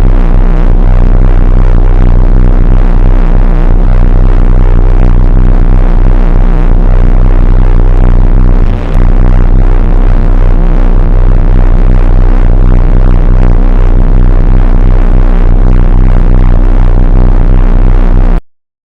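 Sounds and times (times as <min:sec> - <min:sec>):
extremely loud electronic music: 0:00.0 - 0:18.4.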